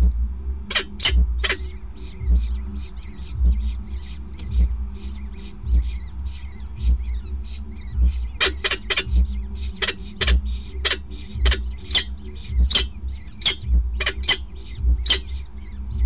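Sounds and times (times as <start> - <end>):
falcon chicks peeping: 0.0 - 16.0
low rumble: 0.0 - 16.0.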